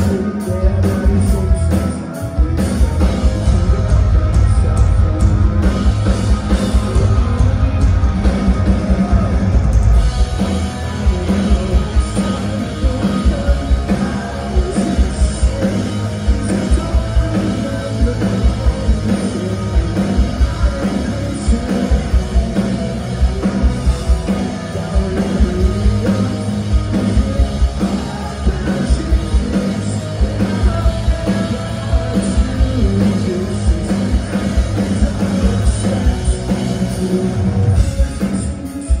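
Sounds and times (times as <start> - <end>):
rock band playing: 0.0 - 39.0
sung vocals: 0.0 - 39.0.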